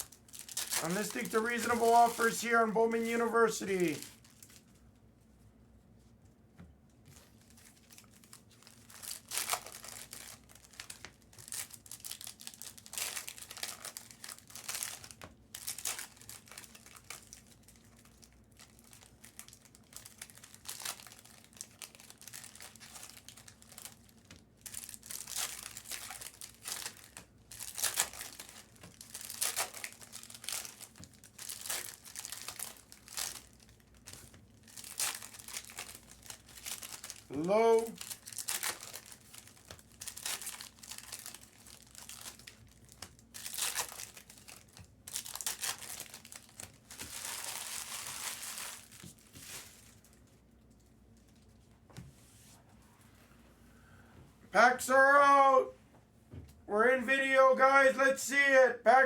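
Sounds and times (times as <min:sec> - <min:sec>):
wrappers crinkling: 0:00.0 - 0:04.8, 0:07.0 - 0:51.7.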